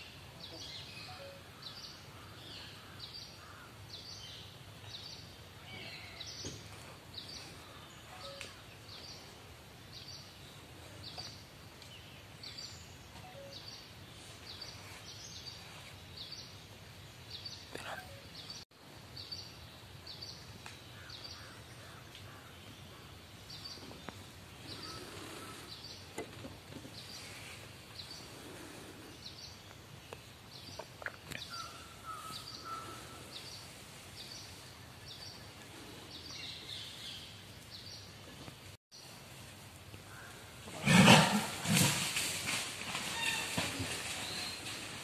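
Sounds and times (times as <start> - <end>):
faint outdoor background noise: 0.0 - 45.0.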